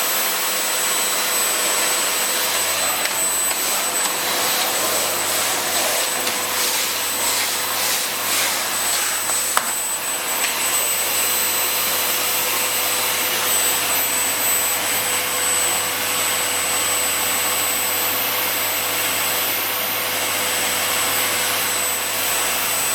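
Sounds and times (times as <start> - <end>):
vacuum cleaner running with whine: 0.0 - 22.9.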